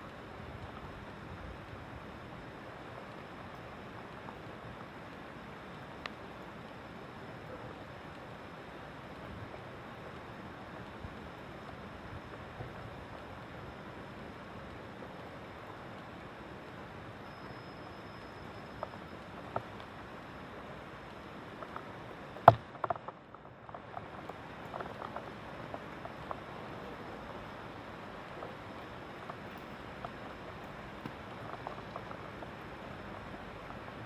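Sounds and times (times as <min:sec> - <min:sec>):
faint ticks: 0:00.0 - 0:34.0.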